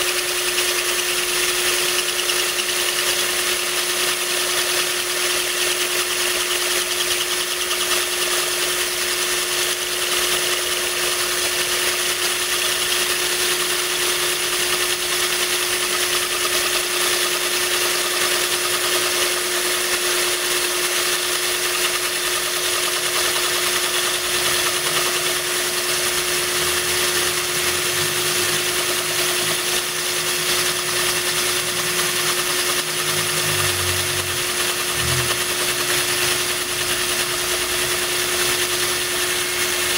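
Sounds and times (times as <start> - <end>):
electric drill grinding glass: 0.0 - 39.9.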